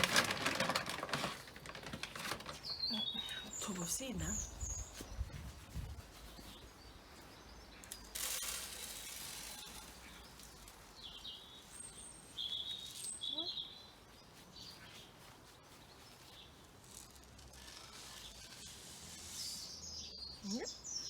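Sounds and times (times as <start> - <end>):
outdoor background noise: 0.0 - 21.0
small birds chirping: 1.8 - 21.0.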